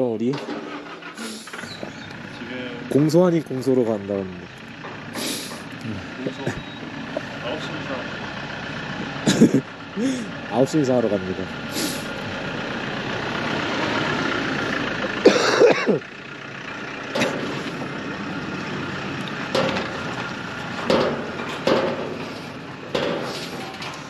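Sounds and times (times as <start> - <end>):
vehicle engine and road hum: 0.0 - 24.0.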